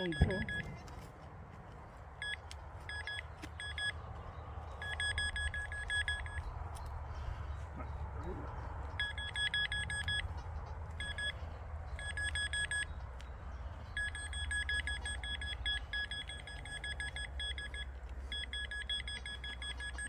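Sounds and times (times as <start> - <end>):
metal detector beeping: 0.0 - 1.1, 2.2 - 4.0, 4.6 - 7.0, 8.2 - 20.0.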